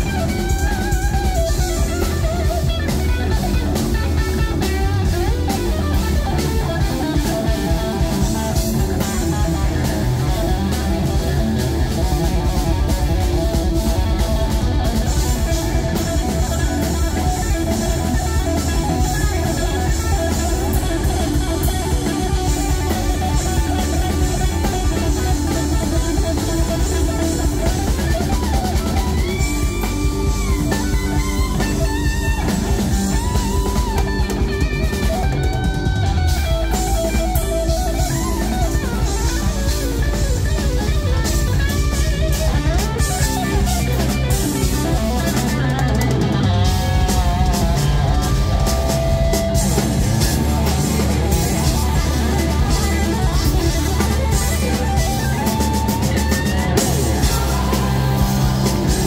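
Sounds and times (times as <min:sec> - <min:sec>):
bass guitar: 0:00.0 - 0:59.0
drums: 0:00.0 - 0:59.0
electric guitar lead with vibrato: 0:00.0 - 0:59.0.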